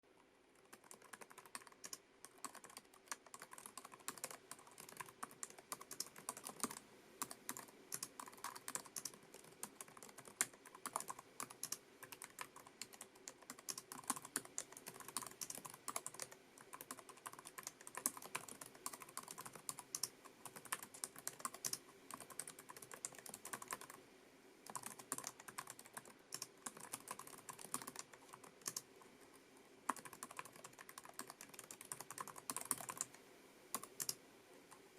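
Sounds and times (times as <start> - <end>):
fast typing on keyboard: 0.6 - 24.0, 24.7 - 28.9, 29.9 - 34.2.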